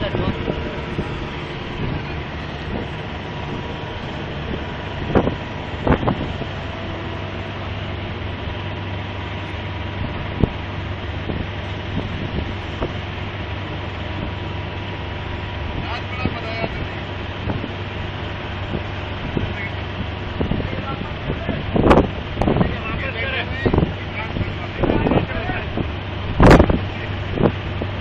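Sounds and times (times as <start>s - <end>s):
heavy engines running: 0.0s - 28.0s.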